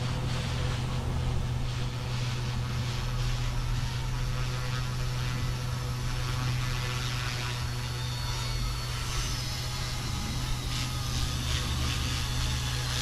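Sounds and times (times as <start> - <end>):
faint high motor whine: 0.0 - 13.0
helicopter rotor hum: 0.0 - 13.0.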